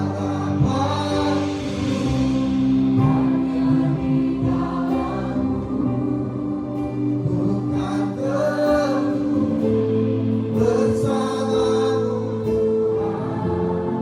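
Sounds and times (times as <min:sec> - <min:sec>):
group singing gospel song: 0:00.0 - 0:14.0
held accompaniment chords: 0:00.0 - 0:14.0.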